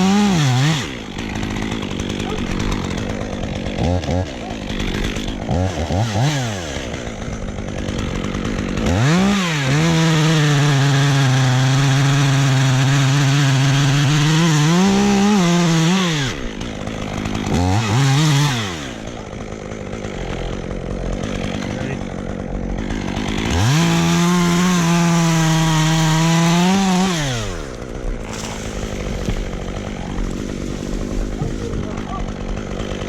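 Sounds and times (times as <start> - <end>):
chainsaw revving and cutting: 0.0 - 33.0.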